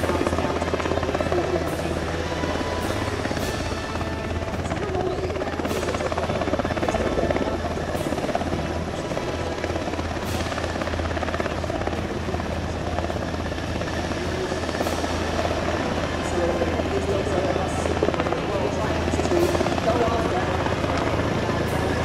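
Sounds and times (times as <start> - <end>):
helicopter hovering: 0.0 - 22.0.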